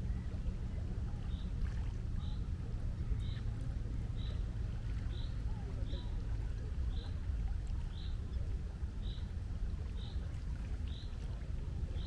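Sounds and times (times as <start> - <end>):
wind and sea rumble: 0.0 - 12.0.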